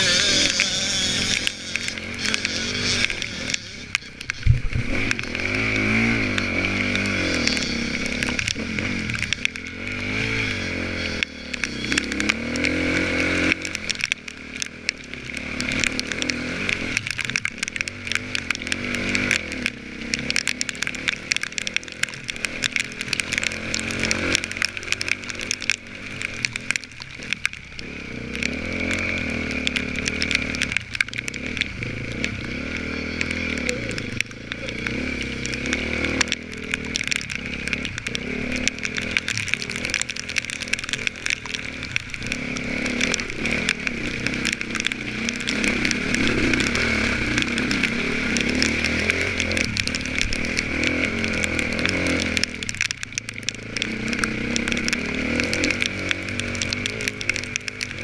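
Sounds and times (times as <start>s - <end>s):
dirt bike engine revving: 0.0s - 26.9s, 27.8s - 52.8s.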